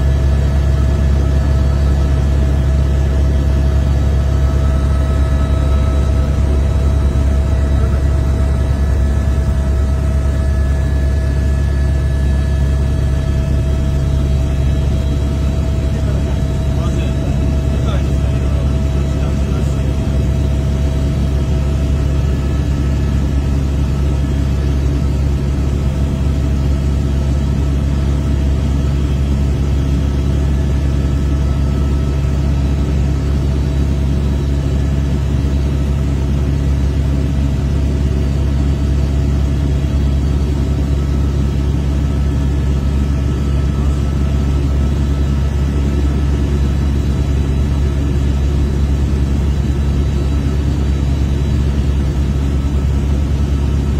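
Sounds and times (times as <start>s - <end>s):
helicopter rotor and engine drone: 0.0s - 53.9s.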